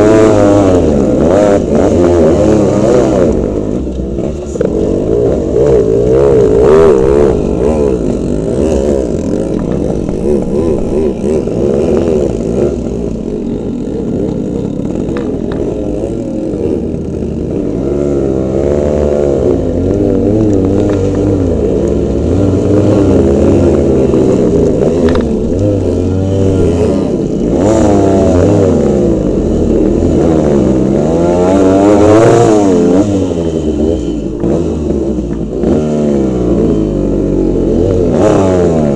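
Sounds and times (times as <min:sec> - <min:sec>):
motorcycle engines revving hard: 0:00.0 - 0:38.9.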